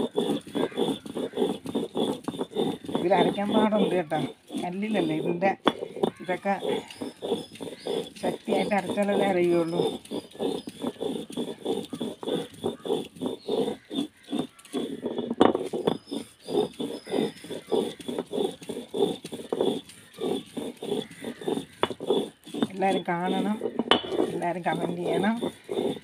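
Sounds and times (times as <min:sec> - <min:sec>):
stone knocking on stone: 0:00.0 - 0:26.0
stone roller grating paste: 0:00.0 - 0:26.0.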